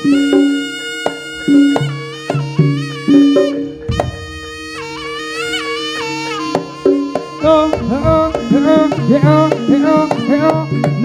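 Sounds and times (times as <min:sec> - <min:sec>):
drum strokes: 0:00.0 - 0:11.0
shrill reed pipe melody: 0:00.0 - 0:11.0.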